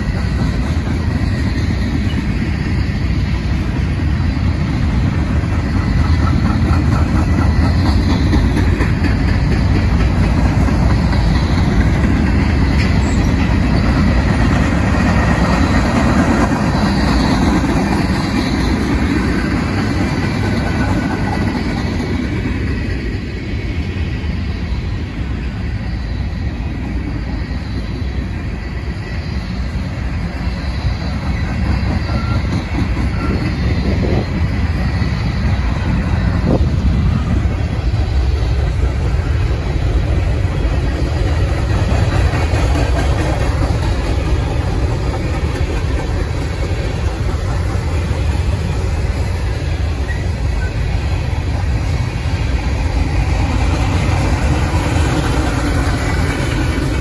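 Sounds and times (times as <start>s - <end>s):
freight train cars rolling: 0.0s - 57.0s.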